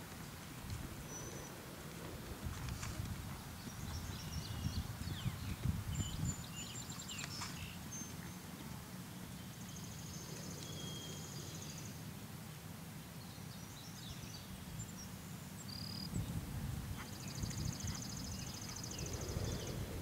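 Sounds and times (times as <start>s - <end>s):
small birds chirping: 0.0s - 12.1s, 13.2s - 20.0s.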